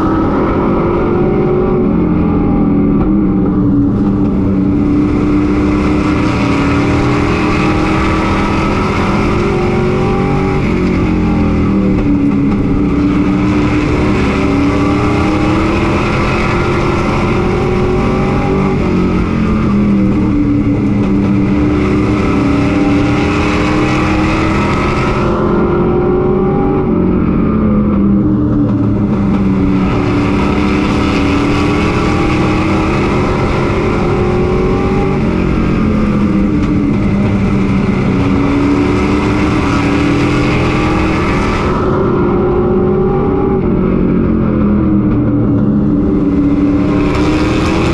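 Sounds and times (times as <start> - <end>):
racing truck engine accelerating: 0.0 - 47.9
wind and road noise: 0.0 - 47.9.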